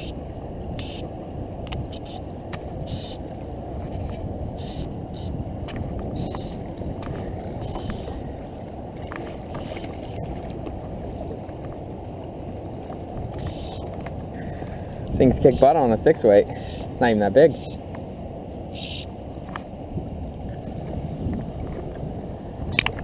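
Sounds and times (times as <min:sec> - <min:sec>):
wind and water rush: 0:00.0 - 0:23.0.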